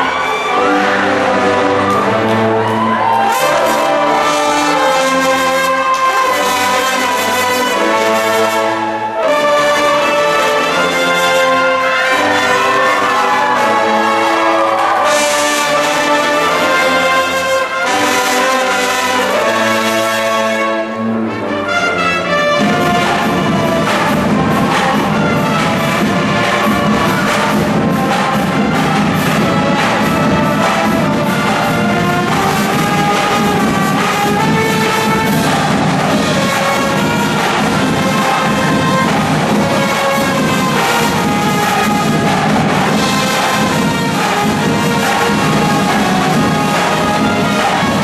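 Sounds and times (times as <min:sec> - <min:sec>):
brass band playing held chords: 0:00.0 - 0:48.0
drumline playing: 0:00.0 - 0:48.0.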